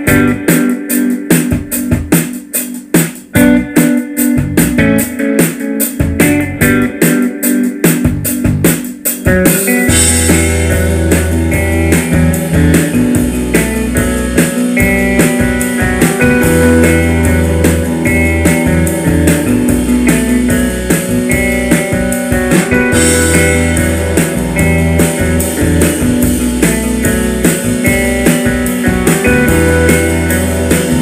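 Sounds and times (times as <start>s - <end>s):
heavy loud bass line: 0.0s - 0.5s, 3.4s - 3.8s, 4.4s - 5.1s, 6.0s - 6.9s, 8.1s - 31.0s
instrumental music with guitar and drums: 0.0s - 31.0s.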